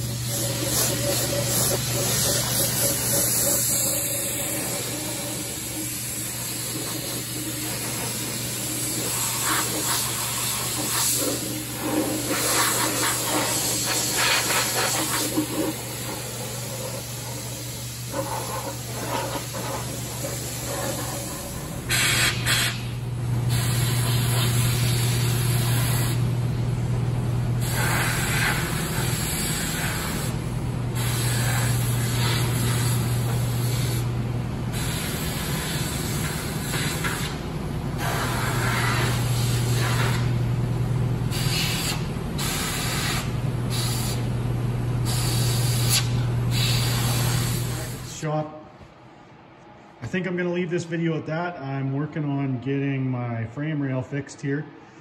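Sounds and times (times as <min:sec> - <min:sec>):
air spray gun hissing bursts: 0:00.0 - 0:26.3, 0:27.6 - 0:37.4, 0:38.0 - 0:40.4, 0:41.3 - 0:44.3, 0:45.0 - 0:48.2
steady low hum: 0:00.0 - 0:55.0.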